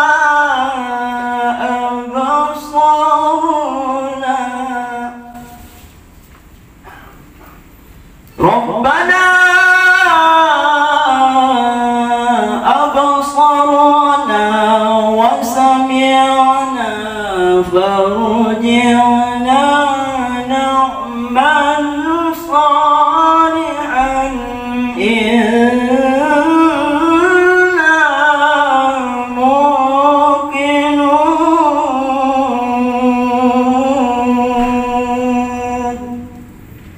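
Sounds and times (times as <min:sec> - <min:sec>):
man chanting melodically: 0:00.0 - 0:05.6, 0:08.3 - 0:36.5.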